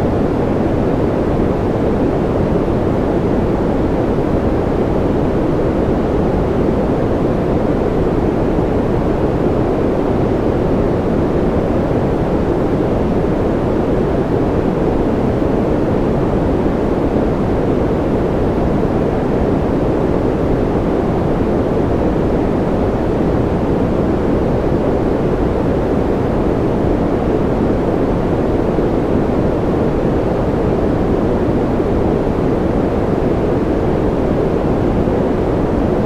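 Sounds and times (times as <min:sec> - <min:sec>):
deep muffled white noise hiss: 0:00.0 - 0:36.0.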